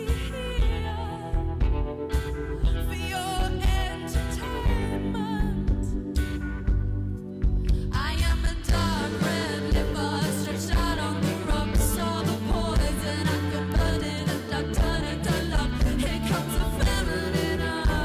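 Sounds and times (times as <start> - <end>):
woman singing lead vocal: 0.0 - 6.1, 7.7 - 18.0
live rock band playing: 0.0 - 18.0.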